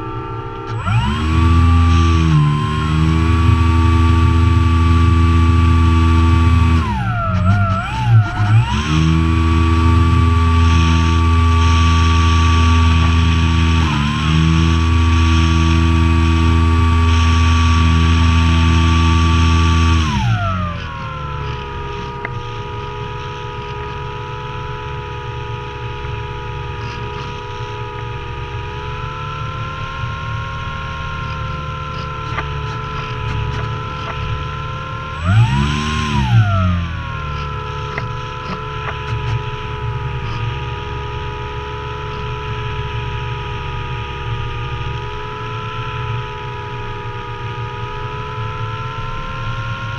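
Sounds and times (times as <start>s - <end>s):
model plane electric motor and propeller: 0.0s - 49.9s.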